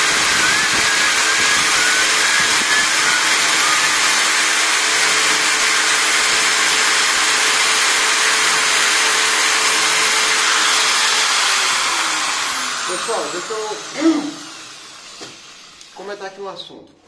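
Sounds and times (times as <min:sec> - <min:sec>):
file scraping spinning metal: 0:00.0 - 0:15.7
electric drill running: 0:00.0 - 0:16.2.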